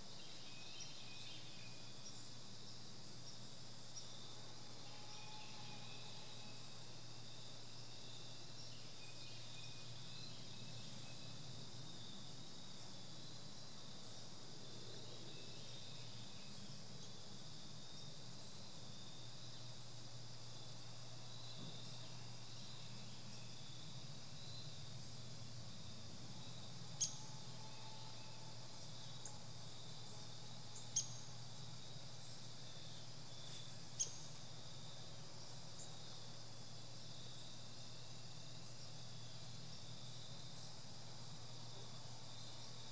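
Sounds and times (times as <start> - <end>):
crickets and insects trilling: 0.0 - 42.9
faint low hum: 0.0 - 42.9.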